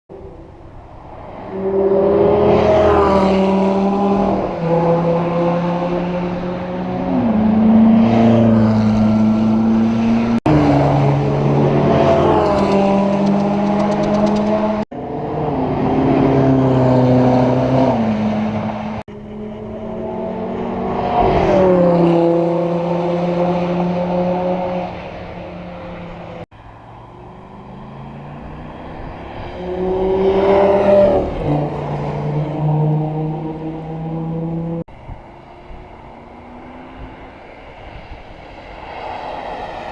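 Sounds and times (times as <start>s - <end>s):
sports car engines revving: 0.1s - 39.2s.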